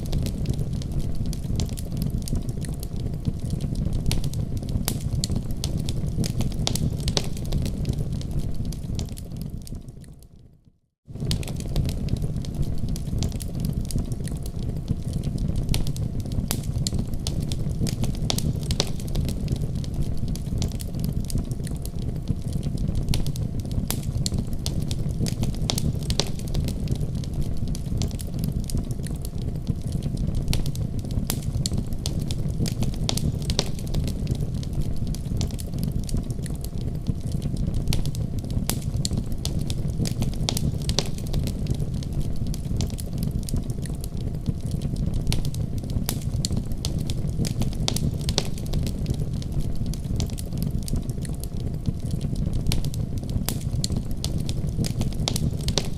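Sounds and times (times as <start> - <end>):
fire pops and snaps: 0.0 - 10.4, 11.0 - 55.9
wood fire crackling: 0.0 - 55.9.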